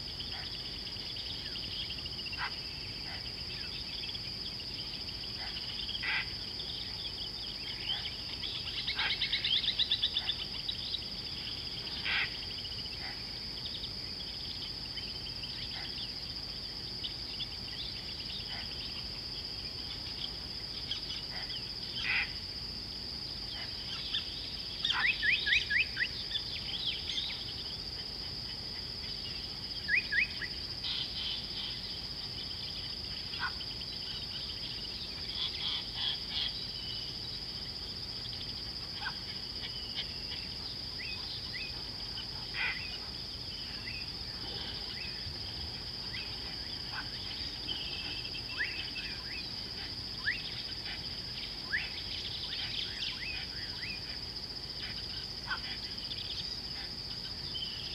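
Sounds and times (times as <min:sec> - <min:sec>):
high-pitched insect drone: 0:00.0 - 0:57.9.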